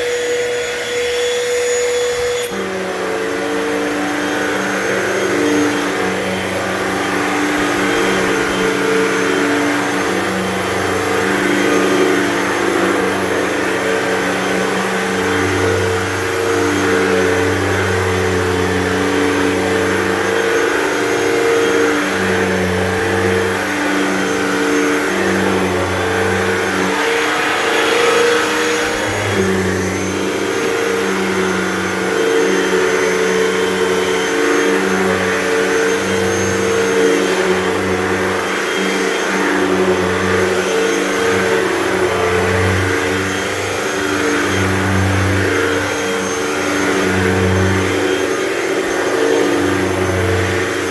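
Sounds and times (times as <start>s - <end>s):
vacuum cleaner running on carpet: 0.0s - 50.9s.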